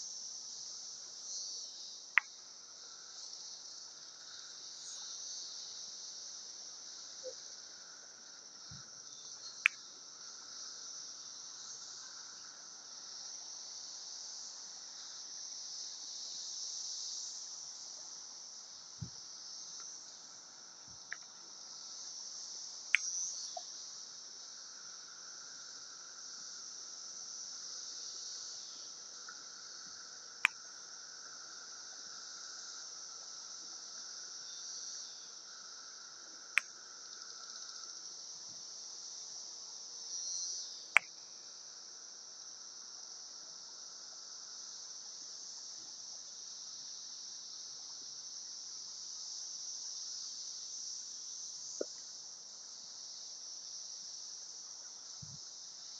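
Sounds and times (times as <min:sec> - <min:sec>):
cicadas chorus hissing: 0:00.0 - 0:55.9.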